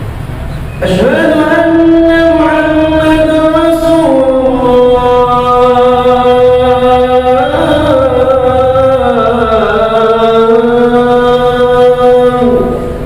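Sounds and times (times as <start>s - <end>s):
person chanting: 0.8s - 13.0s.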